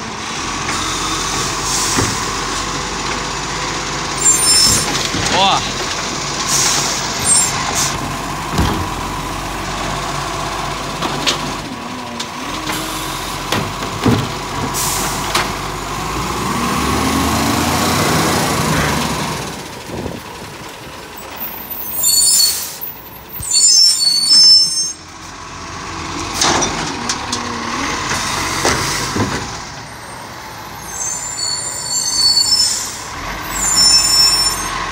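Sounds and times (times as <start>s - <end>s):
garbage truck engine revving: 0.0s - 24.3s, 25.0s - 34.9s.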